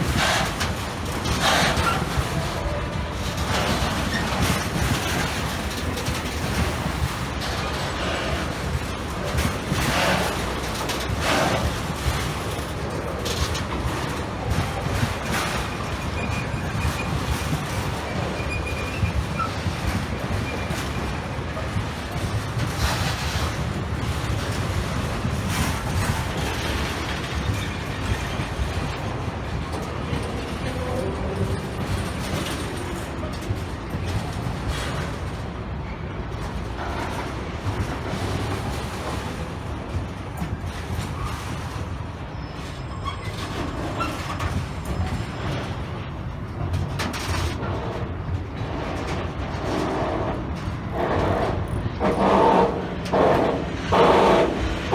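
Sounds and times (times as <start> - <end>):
train rumbling past: 0.0 - 54.9
wheels clicking on track: 0.0 - 54.9.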